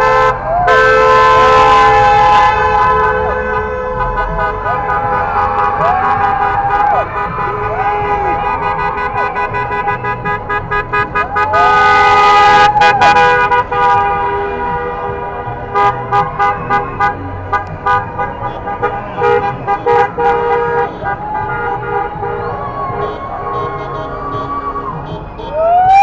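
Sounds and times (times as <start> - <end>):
car horns honking: 0.0 - 26.0.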